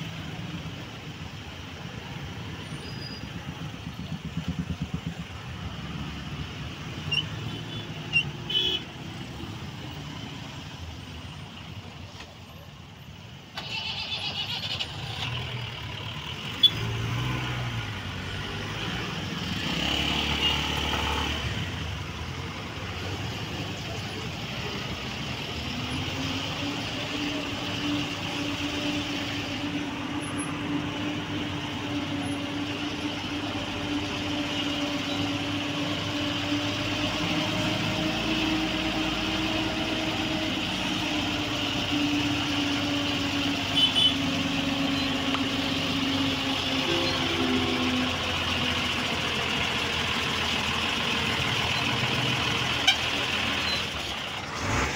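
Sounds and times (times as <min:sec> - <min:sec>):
truck engine drone: 0:00.0 - 0:54.9
vehicle engines idling: 0:00.0 - 0:54.9.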